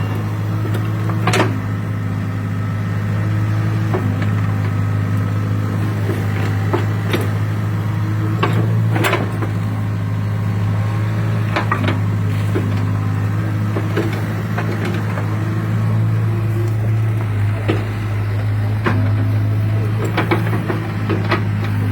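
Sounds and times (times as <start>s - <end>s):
digging knocks and clanks: 0.0s - 2.5s, 3.5s - 21.9s
excavator diesel engine running: 0.0s - 21.9s.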